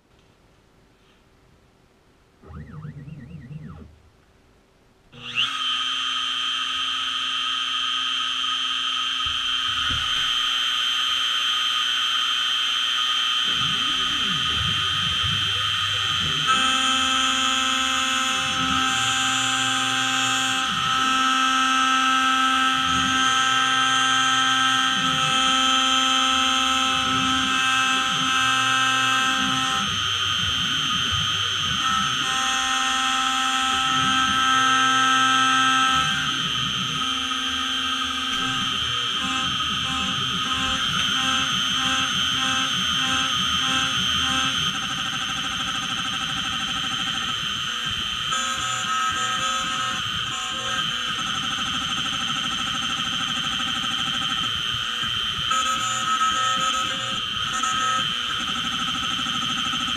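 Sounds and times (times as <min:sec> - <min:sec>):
milling machine spindle whining: 0:05.2 - 0:59.9.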